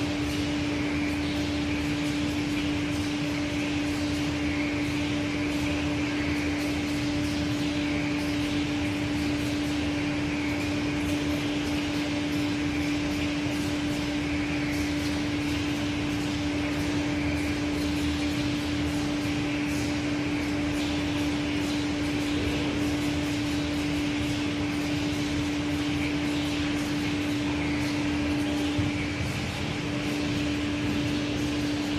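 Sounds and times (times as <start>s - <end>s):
grinding machine hum and hiss: 0.0s - 31.9s.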